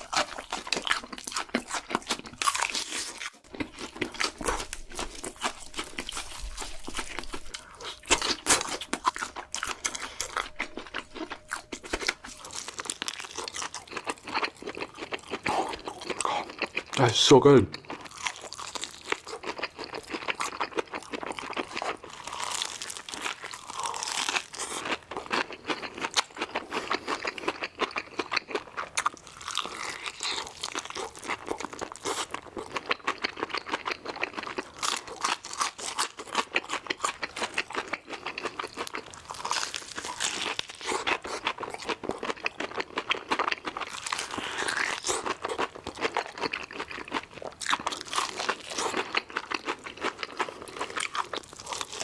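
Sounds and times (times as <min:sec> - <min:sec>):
crunchy chewing: 0:00.0 - 0:52.0.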